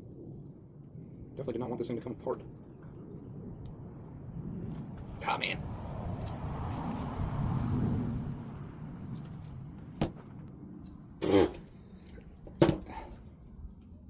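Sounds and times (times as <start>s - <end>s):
low rumble: 0.0s - 12.3s.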